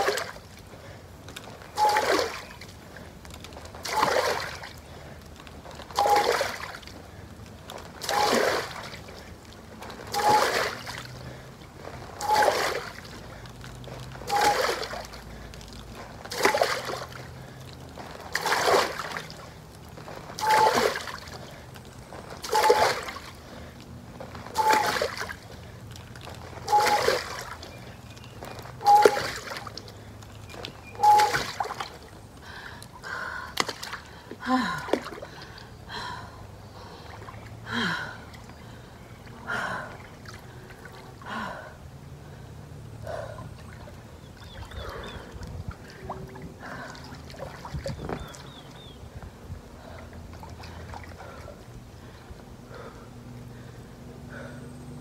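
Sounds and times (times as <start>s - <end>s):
water sloshing: 0.0s - 36.2s, 43.1s - 52.9s
arms splashing pool water: 0.0s - 53.0s.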